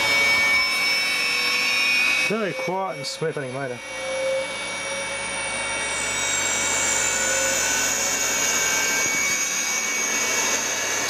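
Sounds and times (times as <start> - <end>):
electric motor whine: 0.0 - 11.0.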